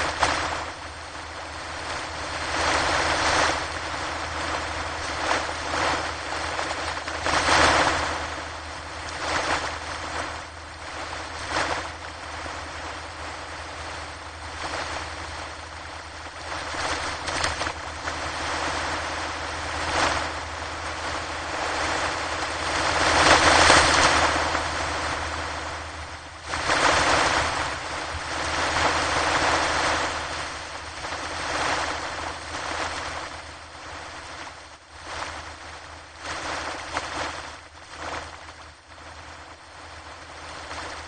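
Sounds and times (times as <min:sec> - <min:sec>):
ocean surf breaking on shore: 0:00.0 - 0:41.0.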